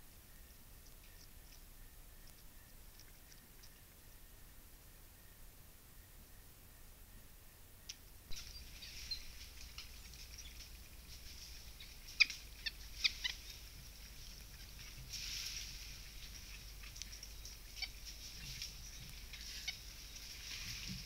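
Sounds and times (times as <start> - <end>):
faint high hiss: 0.0 - 21.0.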